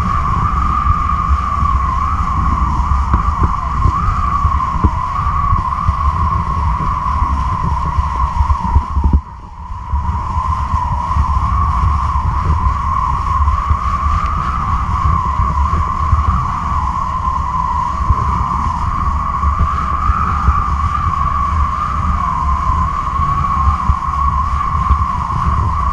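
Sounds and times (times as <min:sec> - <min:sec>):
wavering wind whistle: 0:00.0 - 0:25.9
wind buffeting rumble: 0:00.0 - 0:25.9.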